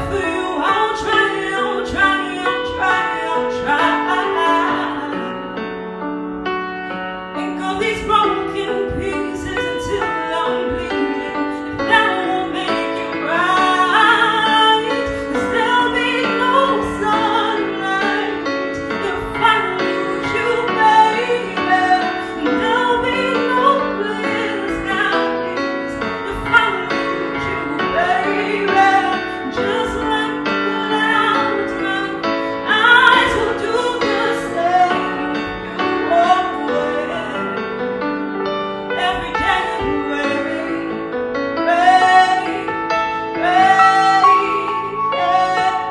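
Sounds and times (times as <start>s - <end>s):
woman singing pop ballad: 0.0s - 5.6s, 7.4s - 37.9s, 38.7s - 45.9s
piano: 0.0s - 45.9s.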